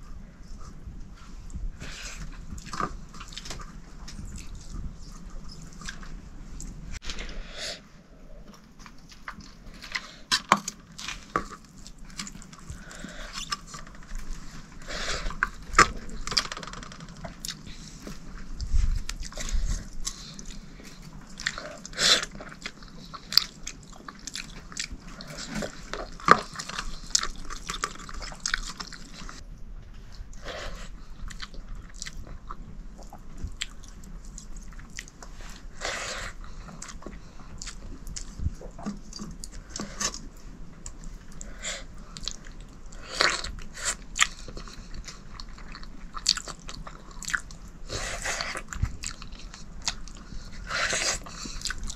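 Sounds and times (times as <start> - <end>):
person chewing and crunching: 1.5 - 7.3, 8.3 - 29.4, 30.1 - 51.9.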